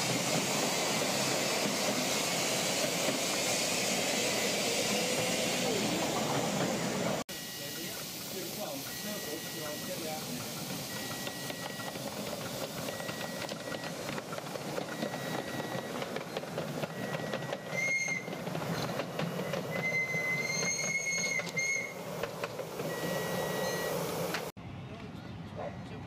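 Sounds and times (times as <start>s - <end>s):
train wheels clicking over rail joints: 0.0s - 7.2s, 7.8s - 24.5s
high wheel squeal: 0.0s - 24.5s.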